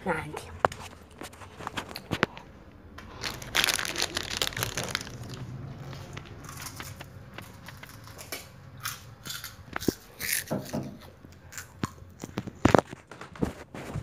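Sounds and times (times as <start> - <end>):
crackling and rustling handling noise: 0.2 - 14.0.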